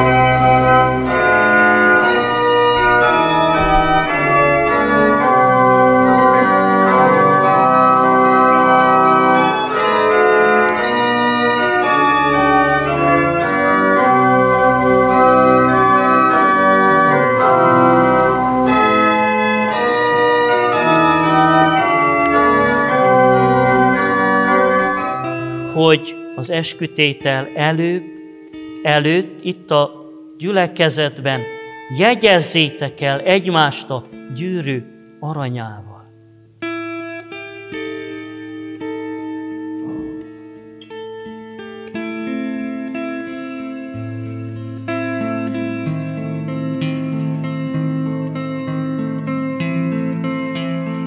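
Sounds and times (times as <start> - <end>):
organ chords: 0.0 - 51.0.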